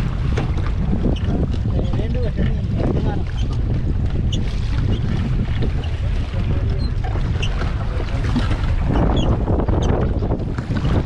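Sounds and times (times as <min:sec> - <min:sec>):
water lapping against boat: 0:00.0 - 0:11.0
wind rumble on microphone: 0:00.0 - 0:11.0.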